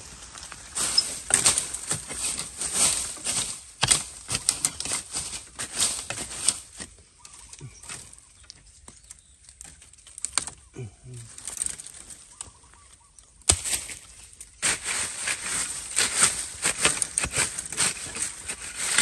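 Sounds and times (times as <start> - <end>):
dry twigs and leaves crackling: 0.0 - 19.0.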